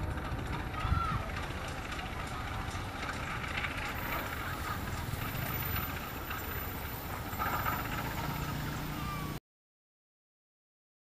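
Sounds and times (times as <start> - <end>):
locomotive engine rumbling: 0.0 - 9.4.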